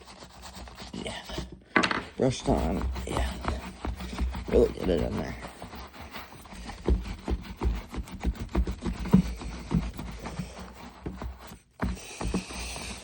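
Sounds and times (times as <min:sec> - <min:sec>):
brush scrubbing leather glove: 0:00.0 - 0:01.6, 0:02.2 - 0:13.0.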